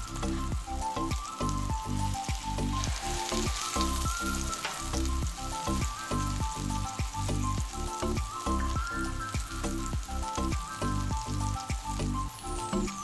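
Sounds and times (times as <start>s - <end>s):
background music with steady beat: 0.0s - 13.0s
patties sizzling in a frying pan: 0.0s - 13.0s.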